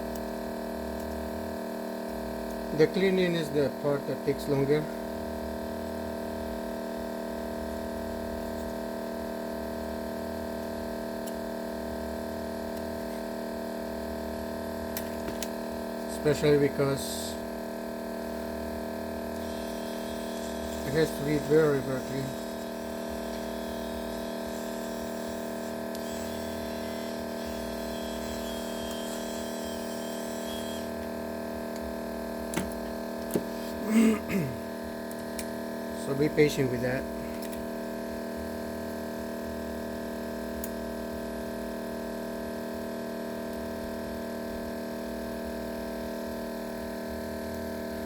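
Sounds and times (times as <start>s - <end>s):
electrical hum with buzzing: 0.0s - 48.0s.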